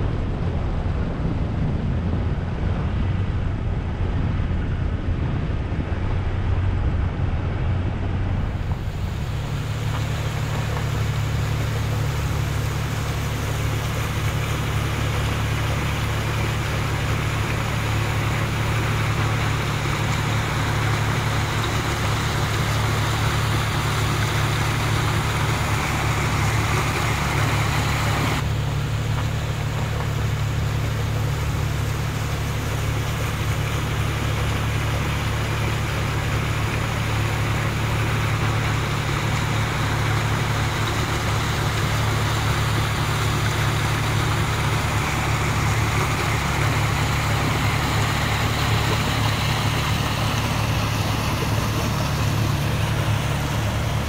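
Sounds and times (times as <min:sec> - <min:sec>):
car engine drone: 0:00.0 - 0:54.0
tyre and road noise: 0:00.0 - 0:54.0.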